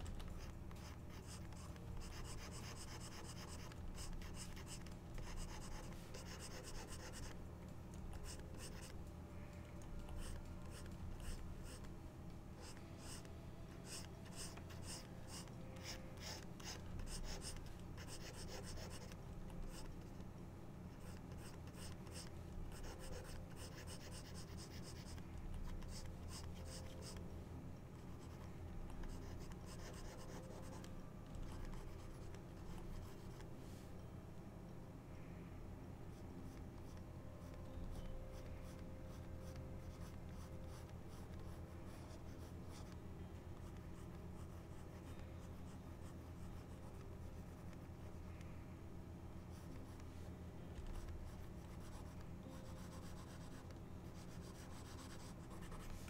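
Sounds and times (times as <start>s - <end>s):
stylus scratching on tablet: 0.0s - 7.4s, 12.6s - 20.2s, 20.9s - 27.2s, 28.0s - 33.5s, 36.2s - 48.2s, 49.4s - 56.0s
low steady hum: 0.0s - 56.0s.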